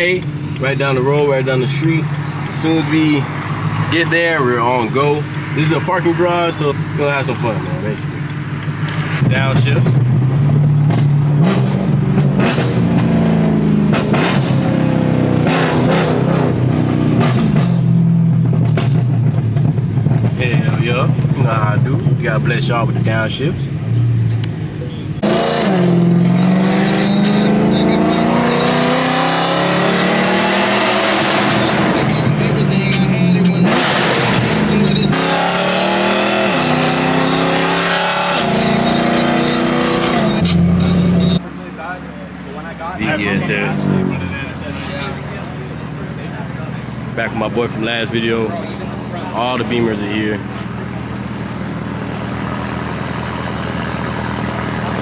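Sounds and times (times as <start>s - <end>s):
car engine revving on downshifts: 0.0s - 21.4s, 22.5s - 41.5s, 43.0s - 55.0s.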